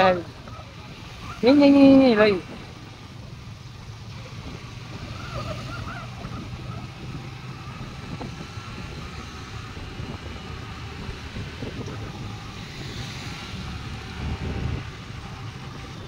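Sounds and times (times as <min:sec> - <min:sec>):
scooter engine hum: 0:00.0 - 0:16.0
wind and road noise: 0:00.0 - 0:16.0.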